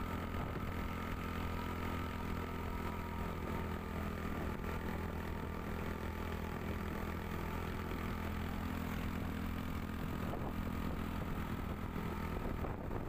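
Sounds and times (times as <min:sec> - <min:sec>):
motorbike engine running: 0:00.0 - 0:13.0
road and wind noise: 0:00.0 - 0:13.0.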